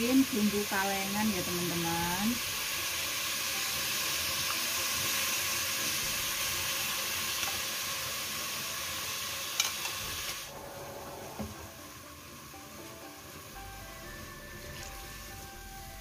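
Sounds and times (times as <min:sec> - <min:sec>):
mushrooms sizzling in a pan: 0:00.0 - 0:16.0.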